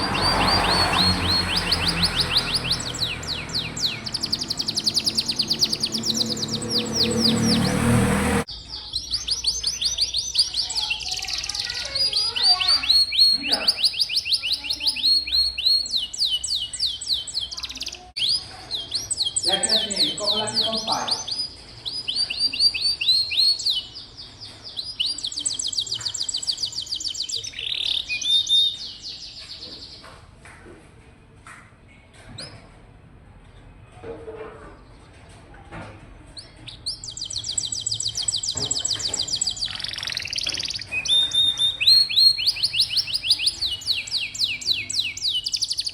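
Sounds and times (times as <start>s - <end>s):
canary singing trills: 0.0s - 30.0s, 36.3s - 45.9s.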